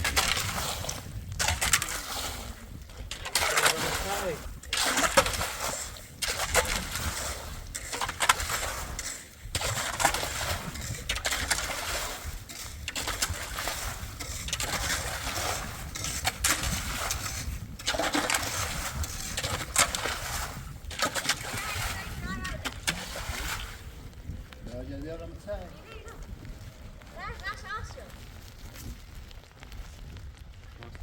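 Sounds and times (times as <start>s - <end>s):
water splashing and sloshing: 0.0s - 29.5s.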